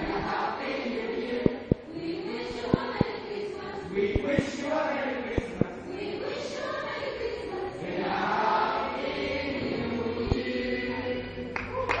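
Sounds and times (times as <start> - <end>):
choir singing: 0.0 - 11.8.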